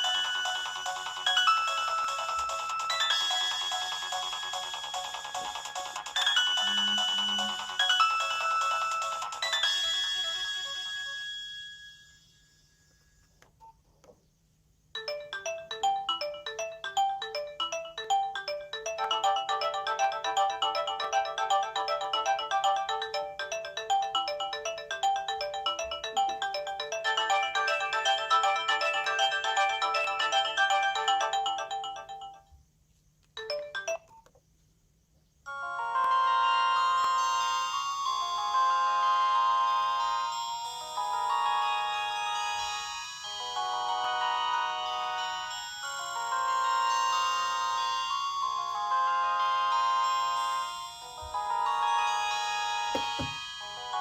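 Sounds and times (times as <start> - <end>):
mobile phone ringtone melody: 0.0 - 12.3, 15.0 - 32.6, 33.4 - 34.2, 35.5 - 54.0.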